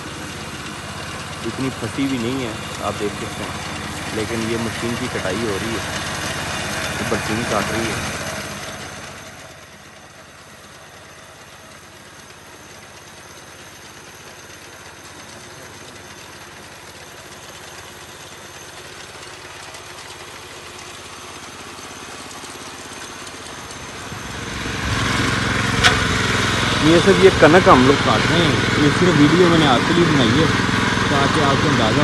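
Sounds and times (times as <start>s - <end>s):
mini tractor engine running: 0.0s - 32.0s.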